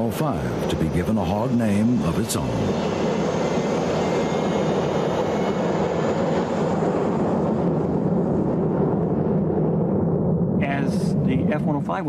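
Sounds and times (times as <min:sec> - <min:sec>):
jet engine roaring: 0:00.0 - 0:12.0.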